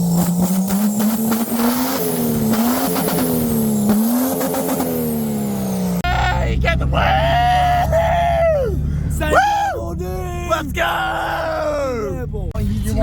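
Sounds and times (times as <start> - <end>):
engine revving high: 0.0 - 13.0.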